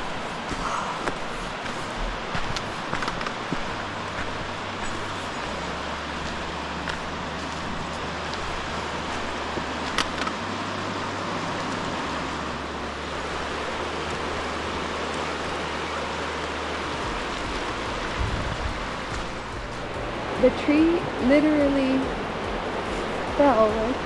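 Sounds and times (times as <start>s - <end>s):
river rushing over rocks: 0.0s - 24.0s.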